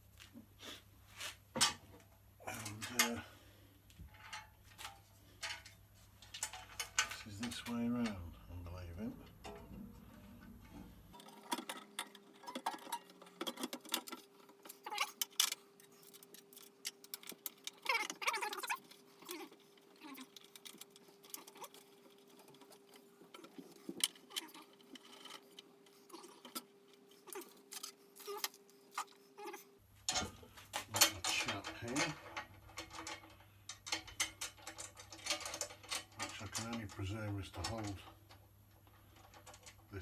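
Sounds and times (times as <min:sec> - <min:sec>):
faint steady hum: 0:00.0 - 0:40.0
small metal parts clicking and rattling: 0:02.5 - 0:40.0.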